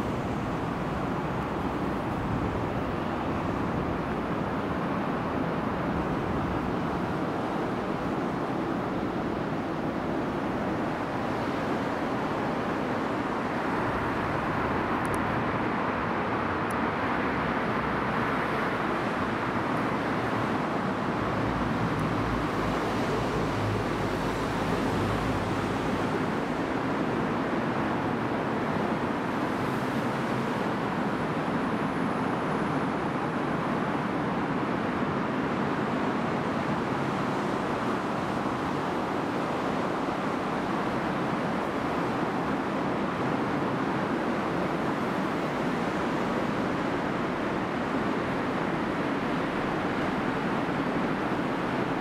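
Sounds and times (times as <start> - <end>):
outdoor ambient rush: 0.0 - 52.0.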